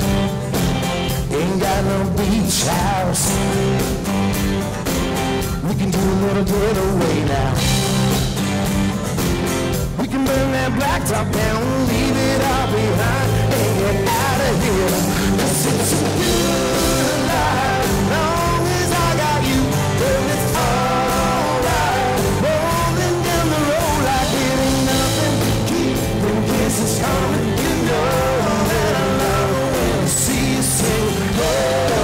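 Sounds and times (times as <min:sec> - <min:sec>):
country rock band playing: 0:00.0 - 0:32.0
sliding lead guitar melody: 0:00.0 - 0:32.0.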